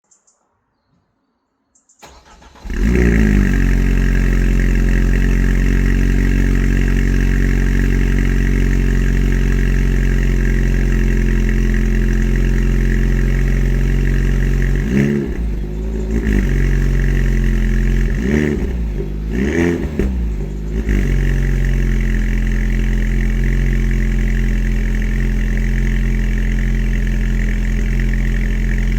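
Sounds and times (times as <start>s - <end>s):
car engine idling and revving: 2.0s - 28.9s.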